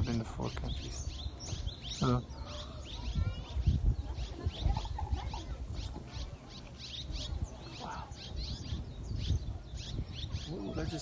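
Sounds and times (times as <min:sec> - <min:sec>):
swallows twittering: 0:00.0 - 0:11.0.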